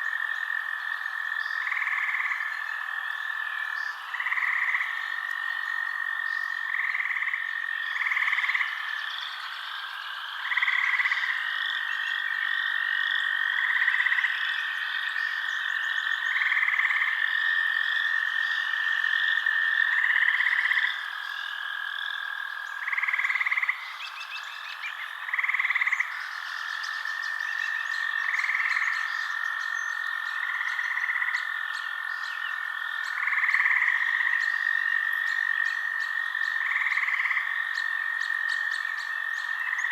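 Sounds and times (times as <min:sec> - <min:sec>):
frogs calling: 0:00.0 - 0:39.9.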